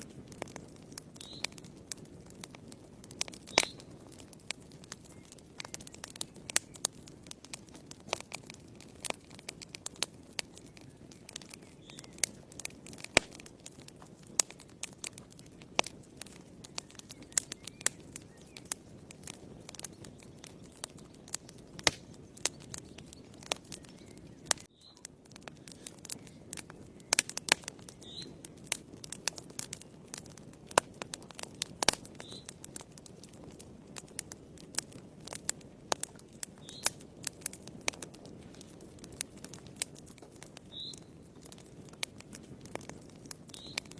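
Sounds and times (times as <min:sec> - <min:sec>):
low rustle of flames: 0:00.0 - 0:43.9
wood fire crackling and popping: 0:00.0 - 0:43.9.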